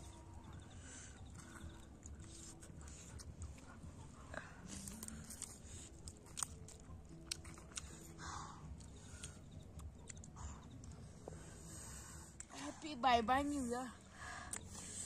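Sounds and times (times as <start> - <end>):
people chewing and biting: 0.0 - 12.6, 14.2 - 15.0.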